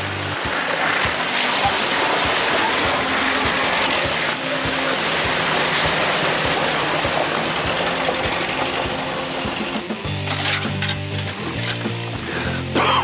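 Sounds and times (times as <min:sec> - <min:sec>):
water splashing and rushing: 0:00.0 - 0:12.1
vehicle engine under load: 0:00.0 - 0:12.6.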